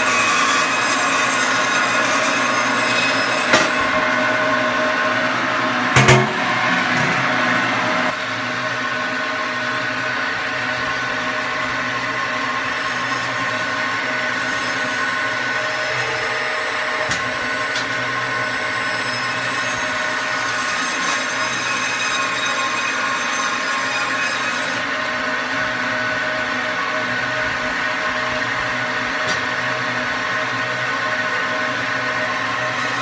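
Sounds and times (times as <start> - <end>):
electric bandsaw cutting: 0.0 - 33.0.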